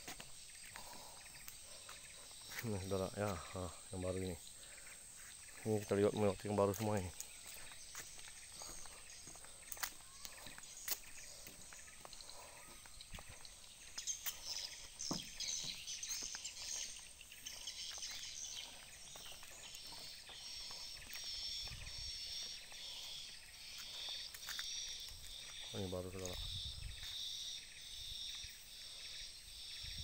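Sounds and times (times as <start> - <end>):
birds chirping: 0.0 - 30.0
faint outdoor background noise: 0.0 - 30.0.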